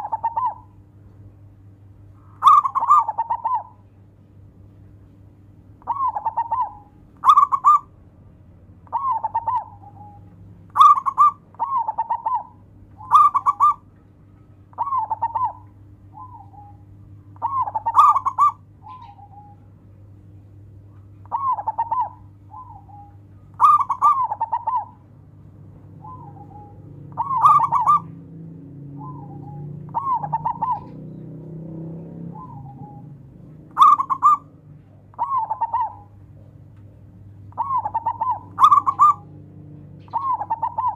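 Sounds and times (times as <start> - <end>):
dove cooing: 0.0 - 0.8, 2.2 - 3.8, 5.8 - 8.0, 8.8 - 13.9, 14.7 - 19.7, 20.8 - 25.1, 25.9 - 40.9
steady low hum: 0.0 - 40.9.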